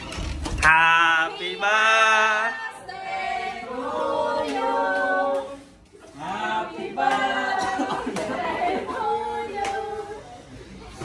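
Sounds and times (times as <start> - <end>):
women singing together: 1.0 - 10.5.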